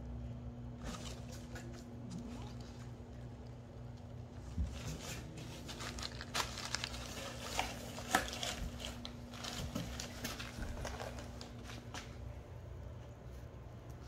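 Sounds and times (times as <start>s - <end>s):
packing paper rustling and crackling: 0.8s - 12.3s.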